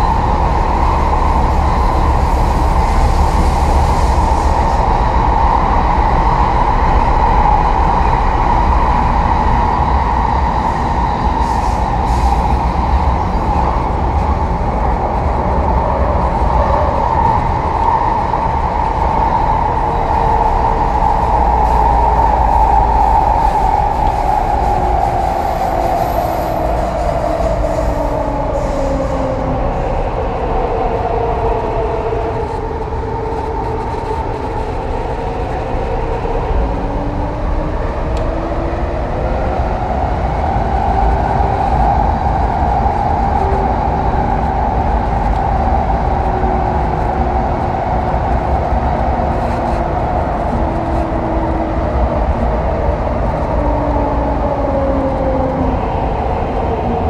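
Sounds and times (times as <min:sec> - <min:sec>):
wheel and rail rumble: 0:00.0 - 0:57.0.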